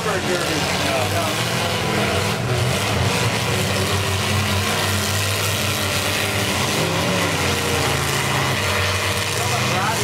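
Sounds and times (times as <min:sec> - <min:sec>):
car engines droning: 0:00.0 - 0:10.0.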